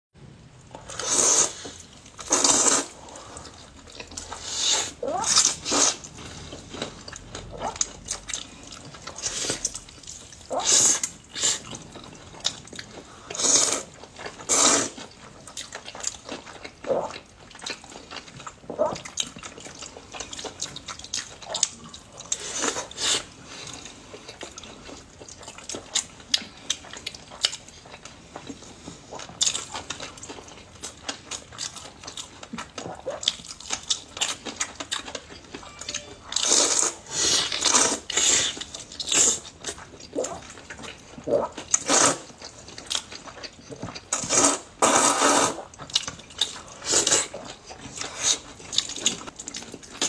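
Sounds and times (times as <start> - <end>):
wet chewing and smacking: 0.7 - 50.0
noodles slurping: 0.8 - 27.6, 36.4 - 49.9.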